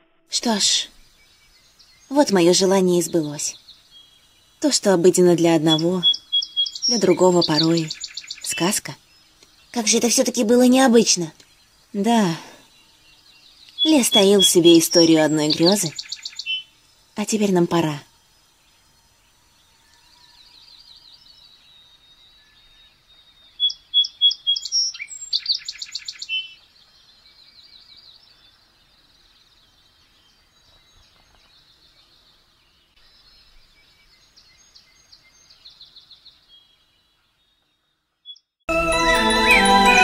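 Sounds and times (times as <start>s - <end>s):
small birds singing: 0.3s - 40.0s.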